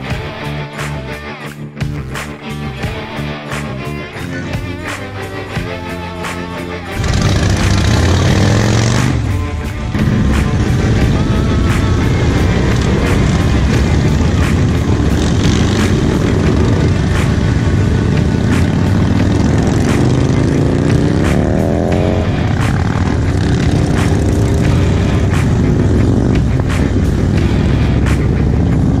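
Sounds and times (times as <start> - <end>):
motorcycle engines rumbling: 3.2 - 29.0
motorcycle accelerating: 3.6 - 29.0.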